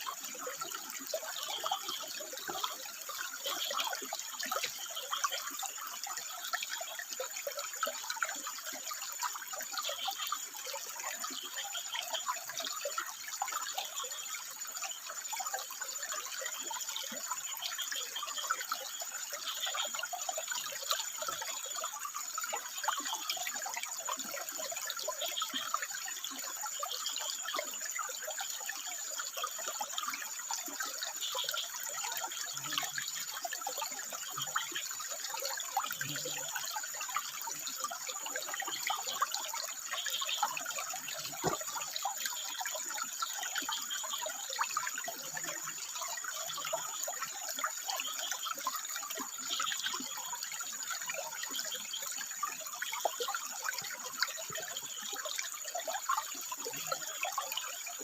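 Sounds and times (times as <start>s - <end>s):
water flowing and splashing: 0.0s - 58.0s.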